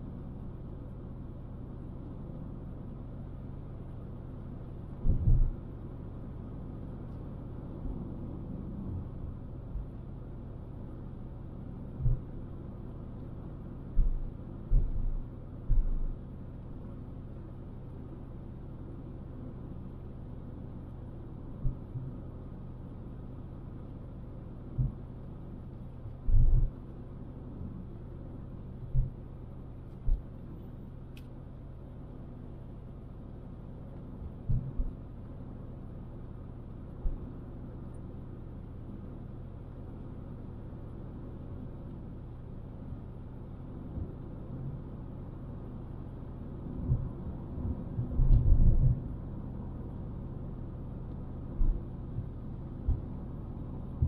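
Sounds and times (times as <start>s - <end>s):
car driving along road: 0.0s - 54.0s
constant low hum: 0.0s - 54.0s.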